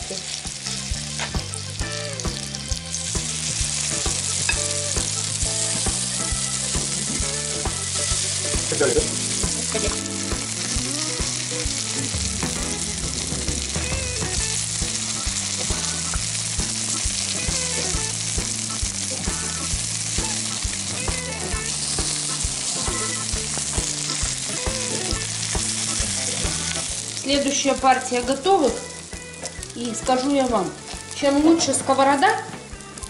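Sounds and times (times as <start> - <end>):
fritters sizzling in oil: 0.0 - 33.0.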